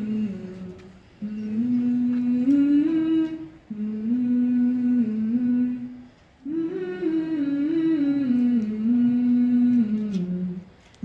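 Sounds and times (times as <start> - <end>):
voices humming slow melody: 0.0 - 10.8.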